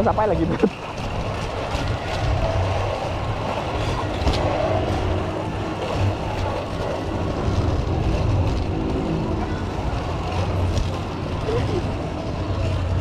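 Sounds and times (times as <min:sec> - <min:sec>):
trolley rolling on steel rail: 0:00.0 - 0:13.0.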